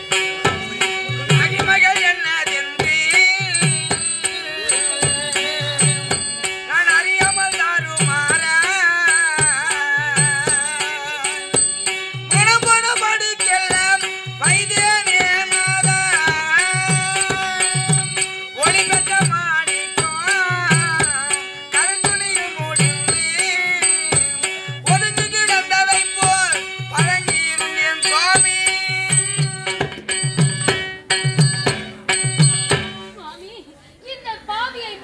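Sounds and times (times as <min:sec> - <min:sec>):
hand drums thumping: 0:00.0 - 0:33.3.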